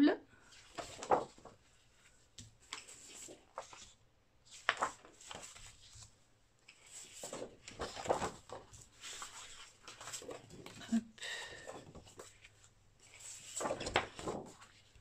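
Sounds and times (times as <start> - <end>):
paper rustling and swishing: 0.5 - 10.9, 11.6 - 15.0.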